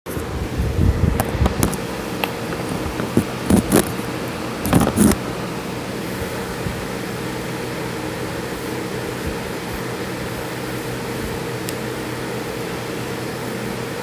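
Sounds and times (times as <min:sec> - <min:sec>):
steady background hum: 0:00.1 - 0:14.0.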